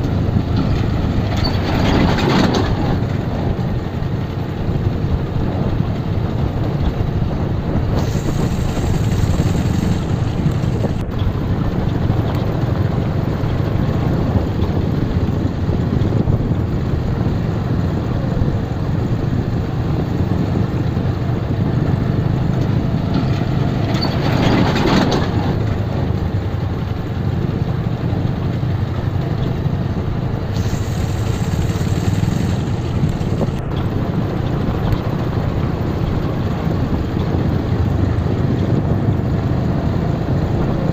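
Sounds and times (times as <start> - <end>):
motorcycle engine at low speed: 0.0 - 40.9
wind rumble on microphone: 0.0 - 40.9.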